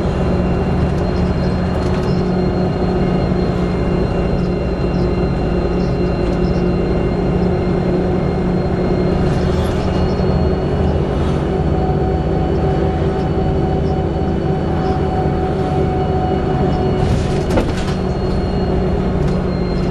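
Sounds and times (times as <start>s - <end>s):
diesel bus engine running: 0.0s - 19.9s
high-pitched drivetrain whines: 0.0s - 19.9s.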